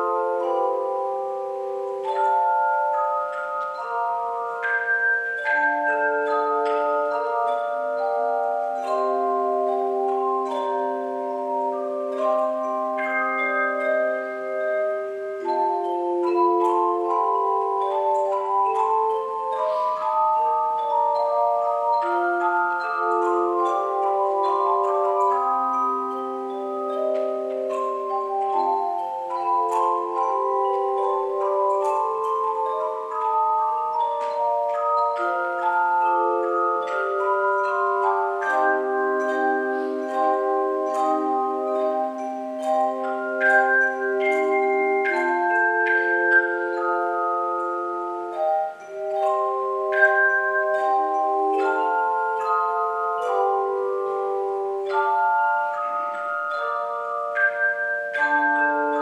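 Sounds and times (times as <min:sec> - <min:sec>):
handbell choir ringing: 0:00.0 - 0:59.0.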